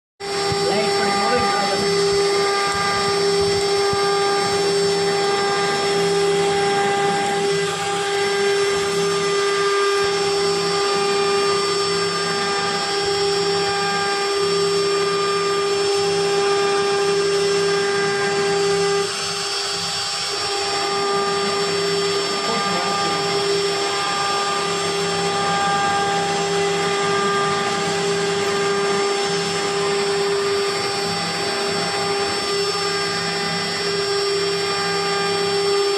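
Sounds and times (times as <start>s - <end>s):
cnc spindle whining: 0.2s - 35.9s.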